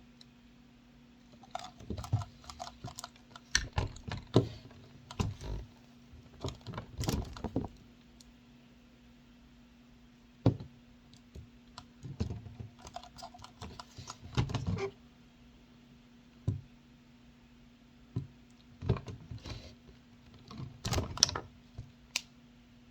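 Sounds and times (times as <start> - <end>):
faint steady hum: 0.0 - 22.9.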